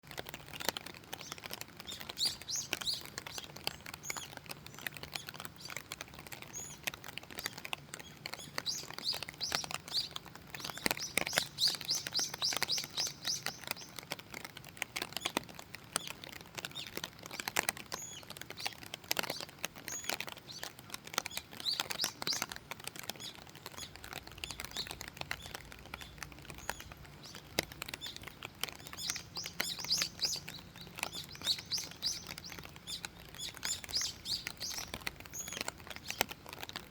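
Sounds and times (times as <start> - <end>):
rain pattering: 0.0 - 36.9
small birds chirping: 0.0 - 36.9.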